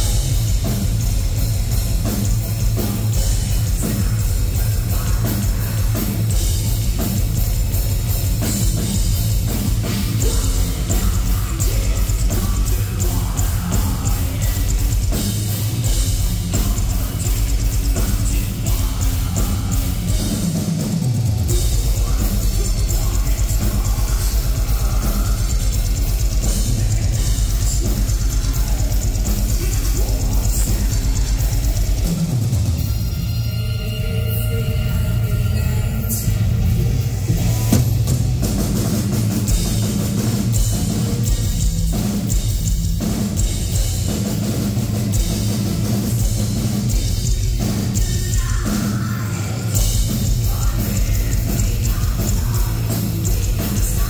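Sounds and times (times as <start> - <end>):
fast driving drums: 0.0 - 54.0
heavy metal band playing: 0.0 - 54.0.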